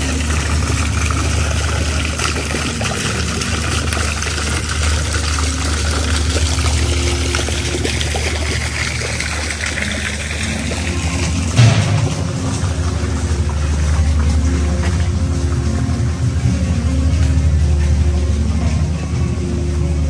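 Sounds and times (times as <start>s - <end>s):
fountain water splashing: 0.0s - 20.0s
low rumble: 0.0s - 20.0s.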